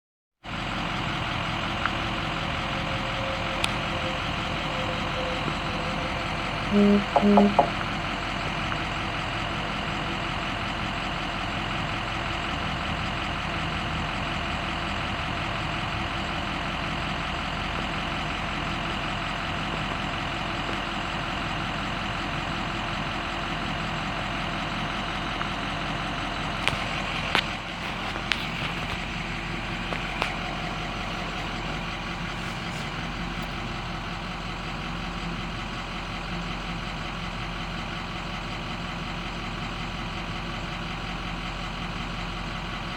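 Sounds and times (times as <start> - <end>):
diesel truck engine running: 0.4 - 42.9.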